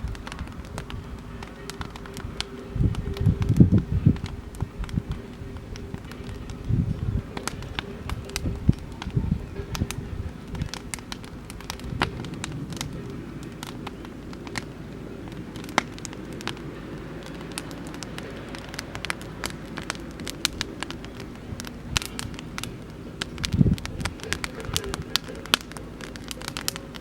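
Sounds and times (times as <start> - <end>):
campfire crackling and popping: 0.0 - 27.0
low rushing background: 0.0 - 27.0.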